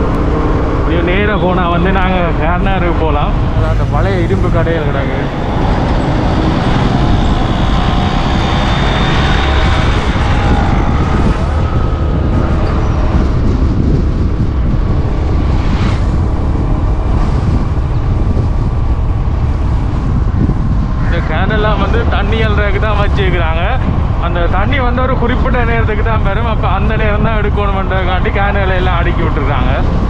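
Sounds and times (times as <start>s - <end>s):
motorcycle engine and road rumble: 0.0s - 30.0s.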